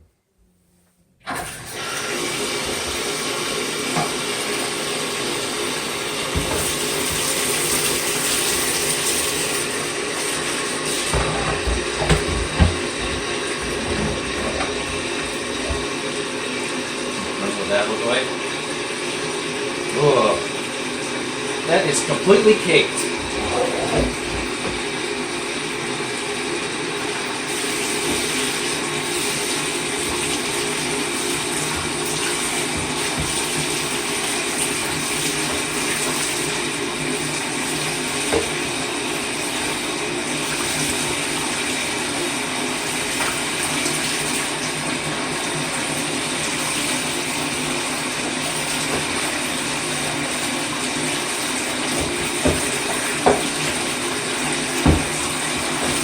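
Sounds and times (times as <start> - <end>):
tap water running into a tub: 1.2 - 56.0.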